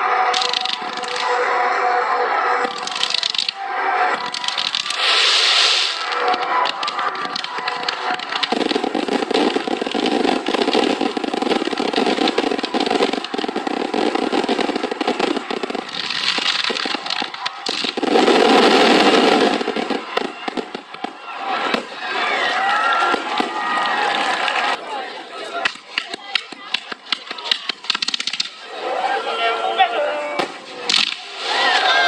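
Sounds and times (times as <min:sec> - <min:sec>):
fireworks crackling: 0:00.0 - 0:29.3, 0:30.2 - 0:32.0.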